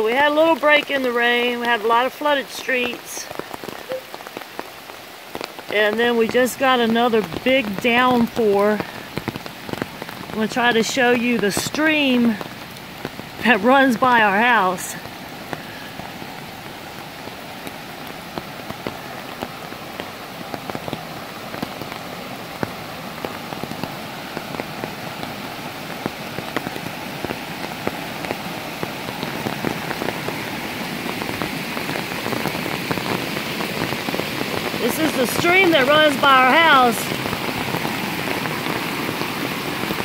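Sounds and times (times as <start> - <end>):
rushing water: 0.0 - 40.0.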